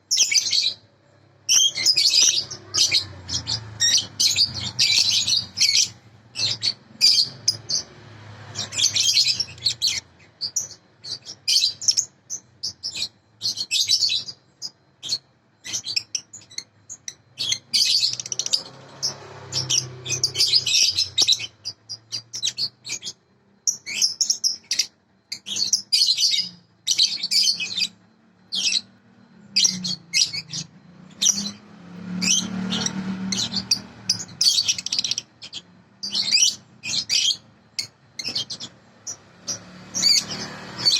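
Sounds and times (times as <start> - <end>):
budgerigars chattering: 1.5 - 7.9, 8.5 - 28.9, 32.2 - 40.9.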